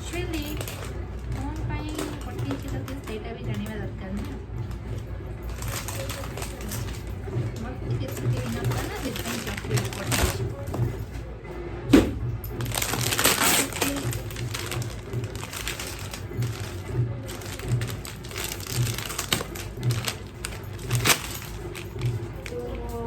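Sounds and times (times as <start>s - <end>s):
packaging crinkling and rustling: 0.0s - 11.0s, 12.5s - 23.0s.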